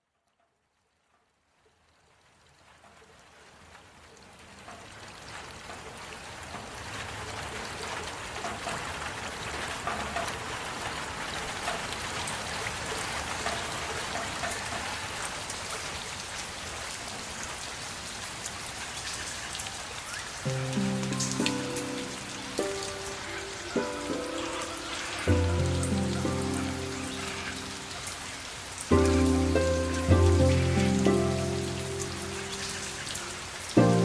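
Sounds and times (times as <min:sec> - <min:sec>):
heavy rain falling: 0:01.9 - 0:34.0.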